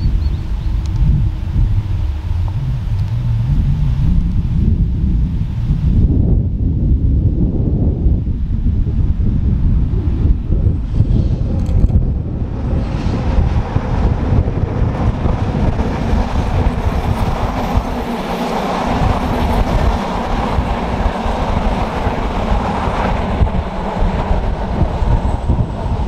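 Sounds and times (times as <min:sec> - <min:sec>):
train passing at speed: 0:00.0 - 0:05.9, 0:09.5 - 0:26.0
wheels rumbling on rails: 0:00.0 - 0:26.0.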